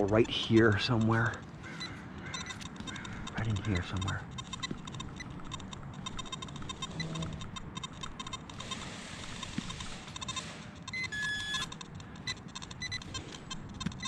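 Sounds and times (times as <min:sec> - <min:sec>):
metal detector beeping: 0:00.0 - 0:14.0.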